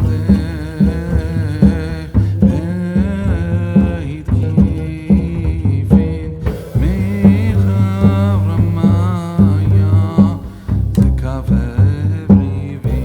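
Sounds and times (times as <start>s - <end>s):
song with drum beat and bass: 0.0s - 13.0s.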